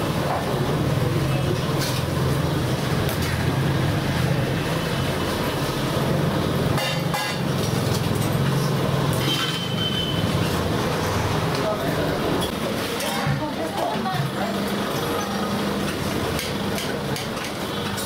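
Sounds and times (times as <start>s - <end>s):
roadside traffic din: 0.0s - 18.0s.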